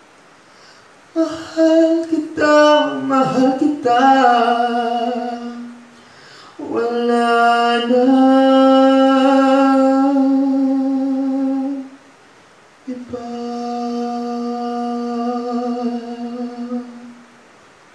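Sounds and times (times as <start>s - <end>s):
man singing held notes: 1.1s - 12.1s, 12.8s - 17.4s.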